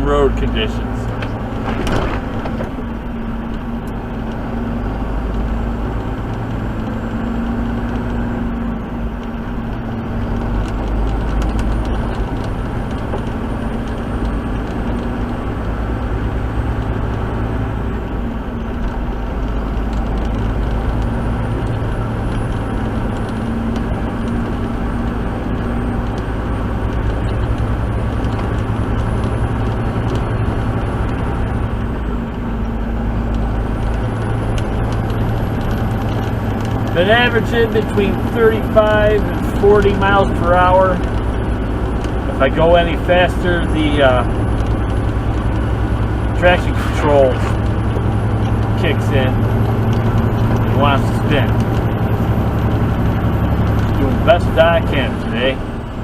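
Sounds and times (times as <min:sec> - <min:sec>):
road and tyre noise: 0:00.0 - 0:56.0
truck engine running: 0:00.0 - 0:56.0.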